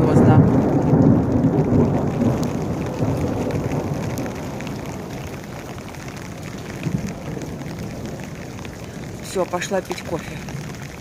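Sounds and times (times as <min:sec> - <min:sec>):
heavy rain on roofs and pavement: 0:00.0 - 0:11.0
thunder rumble: 0:00.0 - 0:11.0
water drips: 0:00.0 - 0:11.0.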